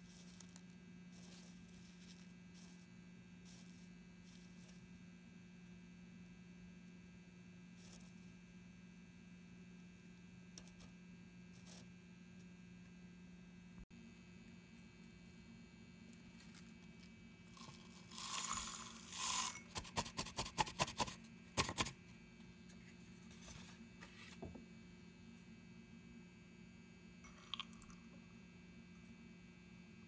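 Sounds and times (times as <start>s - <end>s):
low electrical hum: 0.0s - 19.9s, 21.1s - 30.0s.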